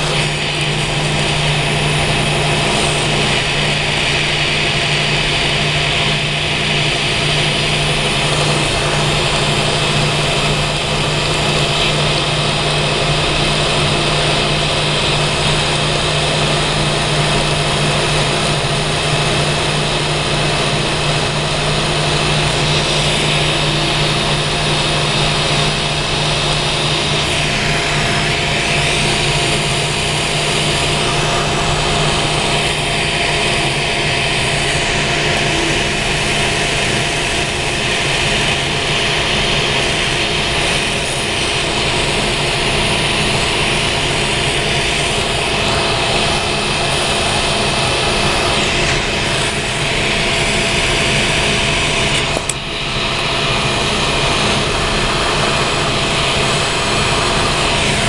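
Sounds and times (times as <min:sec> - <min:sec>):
gas torch burning: 0:00.0 - 0:58.0.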